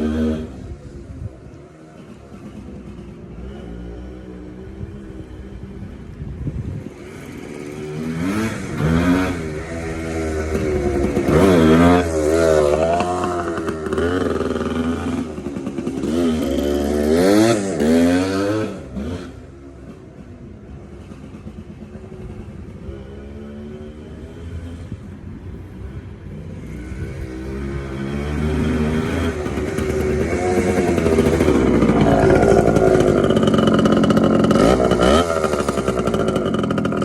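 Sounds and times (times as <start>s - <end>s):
dirt bike engine revving: 2.0s - 20.2s, 21.0s - 37.0s.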